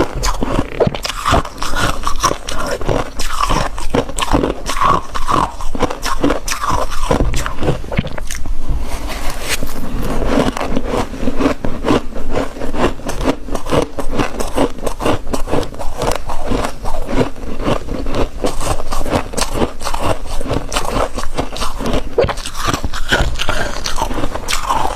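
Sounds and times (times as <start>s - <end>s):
frost crunching: 0.0s - 24.9s.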